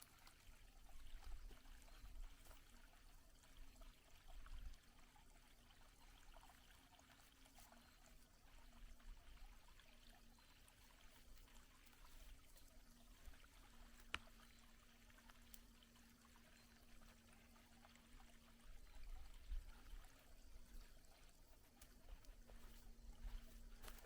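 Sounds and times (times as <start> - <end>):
faint outdoor hiss: 0.0 - 24.0.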